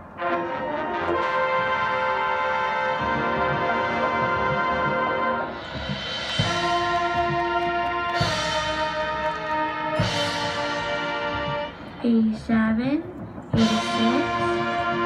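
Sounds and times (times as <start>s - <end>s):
marching band brass chords: 0.0s - 15.0s.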